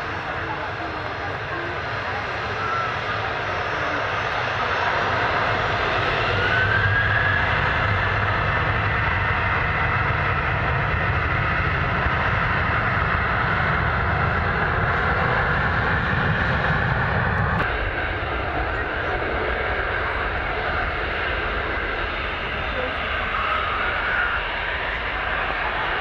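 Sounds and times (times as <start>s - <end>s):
engine whine: 0.0s - 26.0s
jet engines roaring: 0.0s - 26.0s.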